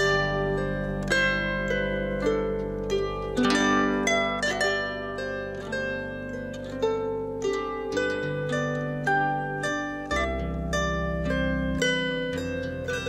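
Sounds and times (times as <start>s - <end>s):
solo harp playing: 0.0s - 13.0s.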